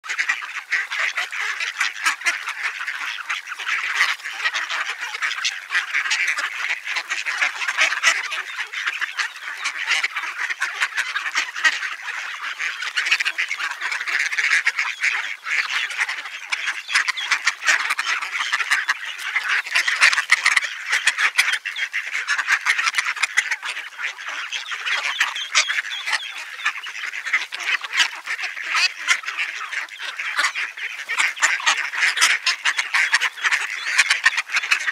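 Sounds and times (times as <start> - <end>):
flock of ducks quacking: 0.0 - 34.9.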